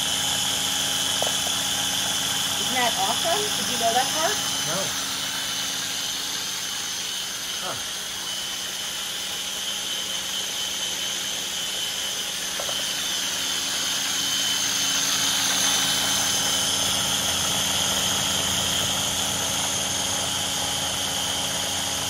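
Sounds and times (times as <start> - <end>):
food processor motor whirring: 0.0 - 22.0.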